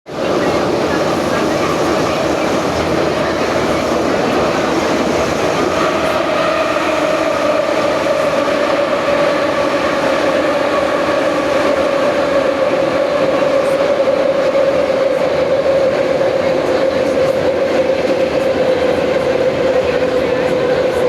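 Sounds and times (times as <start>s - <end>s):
train running rumble: 0.1s - 21.0s.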